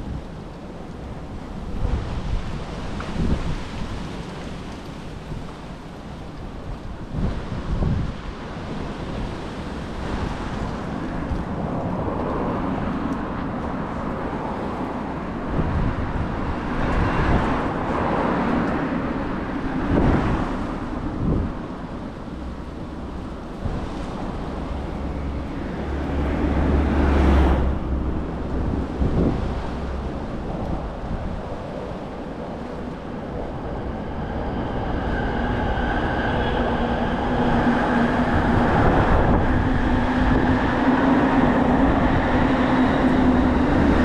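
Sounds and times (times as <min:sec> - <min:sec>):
wind gusting across microphone: 0:00.0 - 0:44.0
traffic passing: 0:08.5 - 0:44.0.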